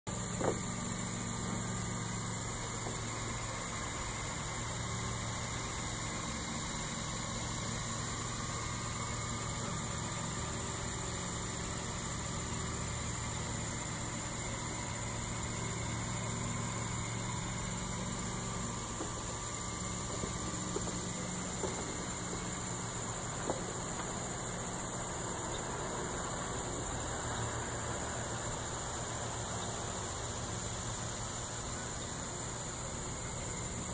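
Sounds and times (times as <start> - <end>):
engraver motors and fan humming: 0.1 - 33.9
high insect-like drone: 0.1 - 33.9.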